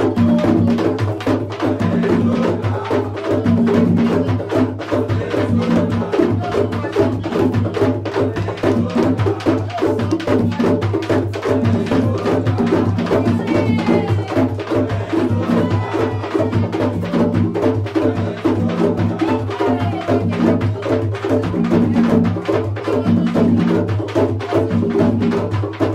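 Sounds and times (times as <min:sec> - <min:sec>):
hand drums beaten fast: 0:00.0 - 0:25.9.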